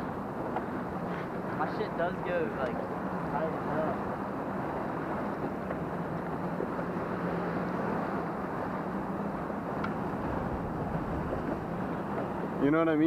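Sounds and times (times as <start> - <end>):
waves breaking: 0.0 - 13.0
wind: 0.0 - 13.0.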